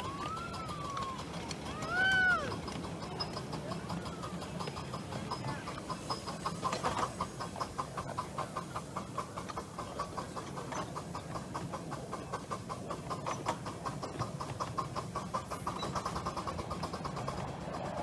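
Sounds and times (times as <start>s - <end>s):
miniature train running: 0.0s - 18.0s.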